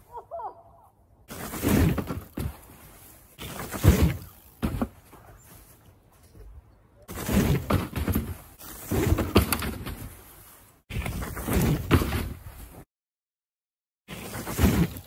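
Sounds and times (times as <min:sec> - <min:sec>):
bike tyres crunching on snow: 0:01.3 - 0:12.9, 0:14.1 - 0:15.0.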